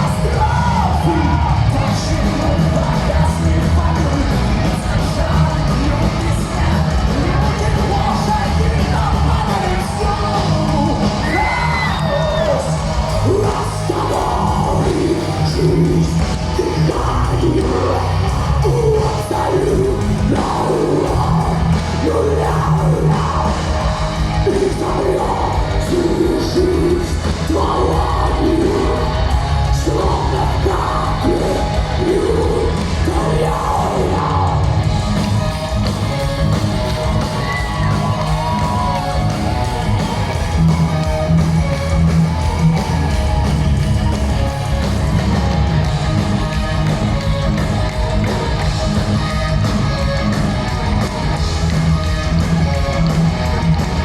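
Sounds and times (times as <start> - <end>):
power metal band playing: 0.0 - 54.0.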